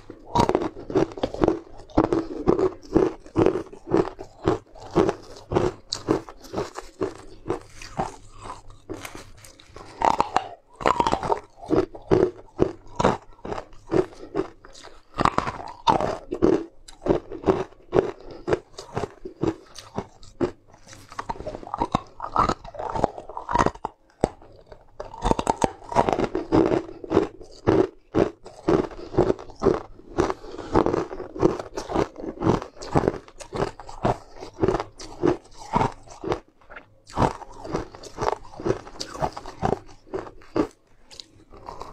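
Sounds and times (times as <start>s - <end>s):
crunching and chewing sweets: 0.0s - 41.9s.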